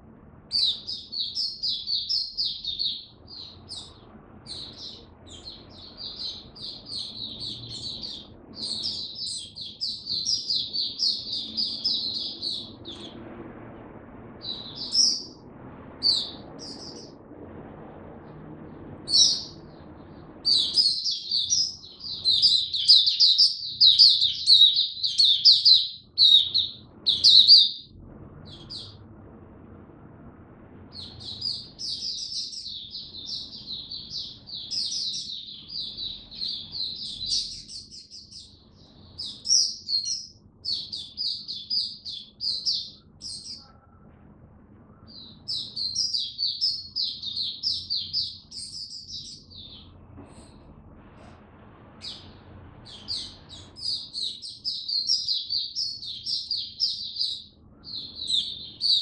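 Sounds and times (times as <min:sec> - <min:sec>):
bird twittering: 0:00.5 - 0:13.2, 0:14.4 - 0:15.4, 0:16.0 - 0:17.2, 0:19.0 - 0:29.0, 0:30.9 - 0:43.9, 0:44.9 - 0:50.0, 0:52.0 - 0:59.0.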